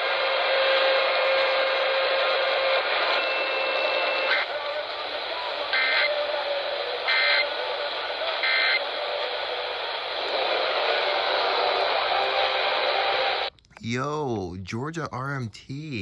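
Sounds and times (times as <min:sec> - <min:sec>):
radio hiss: 0:00.0 - 0:13.9.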